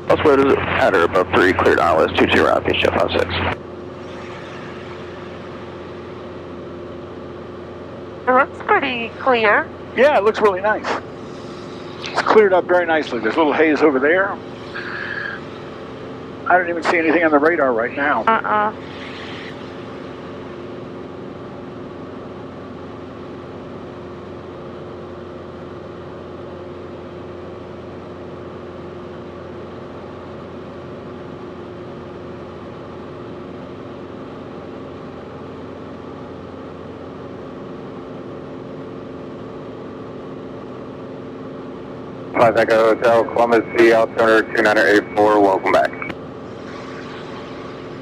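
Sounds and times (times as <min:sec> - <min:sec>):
airplane engine and propeller droning: 0:00.0 - 0:48.0.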